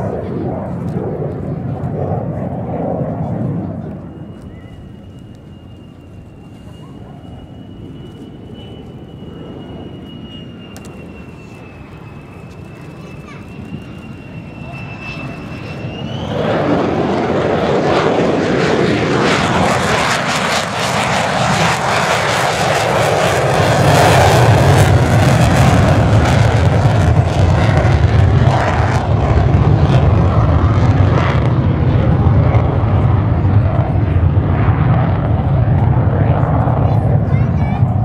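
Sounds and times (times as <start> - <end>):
jet afterburner deep rumble: 0.0 - 38.0
jet passing low: 0.0 - 38.0.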